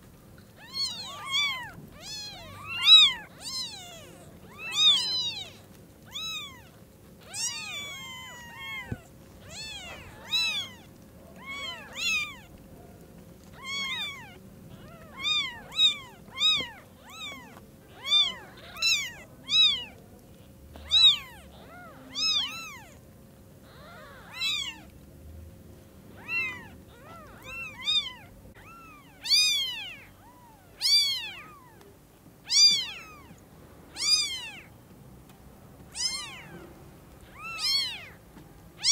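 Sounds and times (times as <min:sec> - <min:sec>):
kittens mewing: 0:00.5 - 0:12.7, 0:13.4 - 0:23.0, 0:23.6 - 0:25.0, 0:26.1 - 0:34.8, 0:35.9 - 0:38.2.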